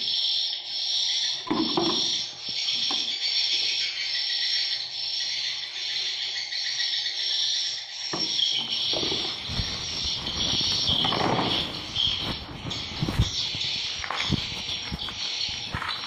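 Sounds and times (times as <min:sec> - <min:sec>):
swiftlets twittering: 0:00.0 - 0:16.0.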